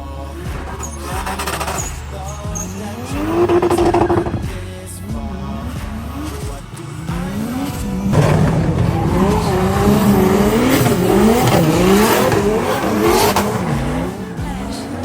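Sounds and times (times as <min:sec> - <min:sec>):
car engine revving hard: 0:00.2 - 0:15.0
tyre screech: 0:00.4 - 0:15.0.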